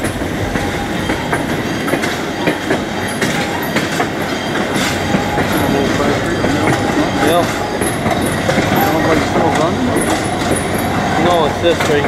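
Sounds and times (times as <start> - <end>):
train wheels rumbling: 0.0 - 12.0
wheels clacking on rail joints: 0.0 - 12.0.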